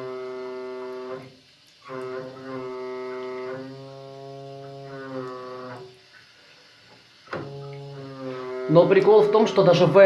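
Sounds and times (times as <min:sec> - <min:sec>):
water tap humming: 0:00.0 - 0:10.0.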